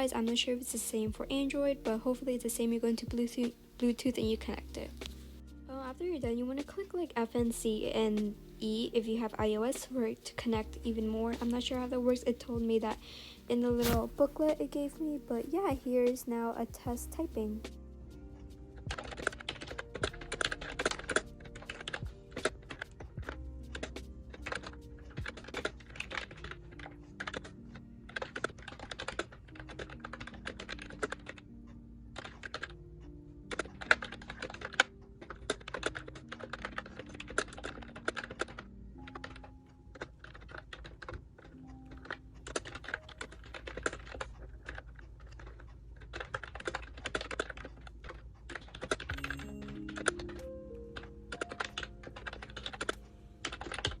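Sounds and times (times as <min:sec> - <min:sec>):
soft background music: 0:00.0 - 0:54.0.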